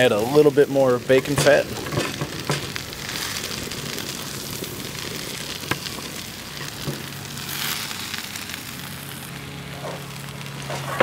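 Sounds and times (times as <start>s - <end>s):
mushrooms and onions sizzling: 0.0s - 11.0s.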